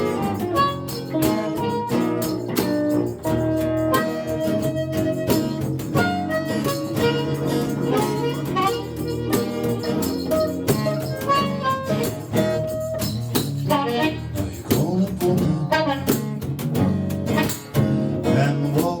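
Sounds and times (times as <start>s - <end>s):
blues harmonica solo: 0.0s - 18.2s
strummed acoustic guitar: 0.0s - 19.0s.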